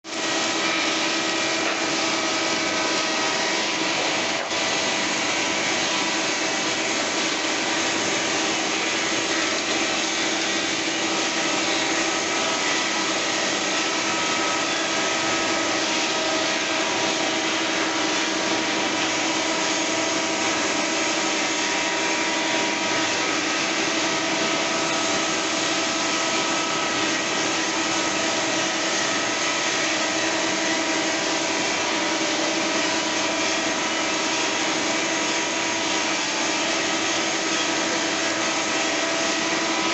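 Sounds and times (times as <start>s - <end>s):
planer machine whining: 0.0s - 39.9s.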